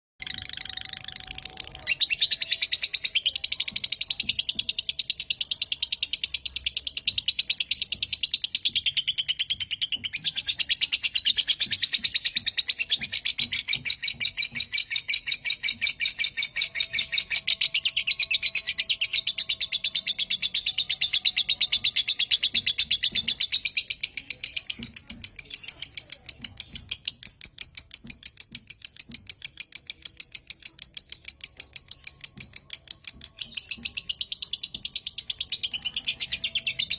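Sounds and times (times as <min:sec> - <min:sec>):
lovebird chattering: 0:05.4 - 0:36.9.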